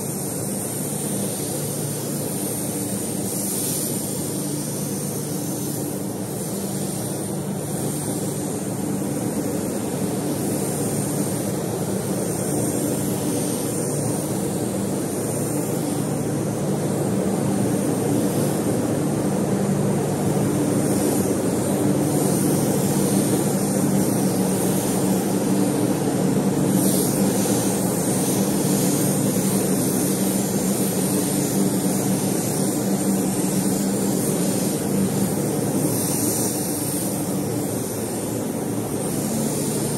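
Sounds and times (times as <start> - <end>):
air hiss: 0.0 - 39.9
spray-painting equipment whirring: 0.0 - 39.9.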